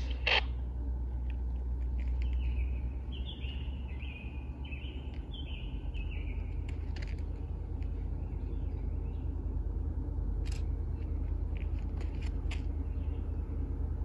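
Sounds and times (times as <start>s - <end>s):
low steady rumble: 0.0s - 14.0s
songbird singing: 0.0s - 14.0s.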